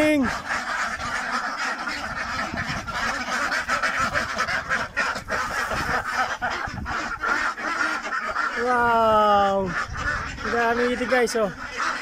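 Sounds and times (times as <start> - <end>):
flock of ducks quacking: 0.0 - 12.0.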